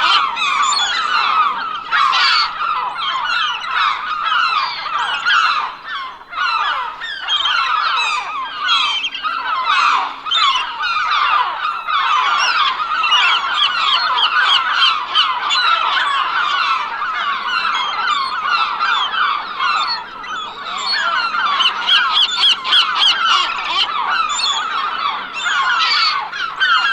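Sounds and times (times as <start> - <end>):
flock of gulls calling: 0.0 - 26.9.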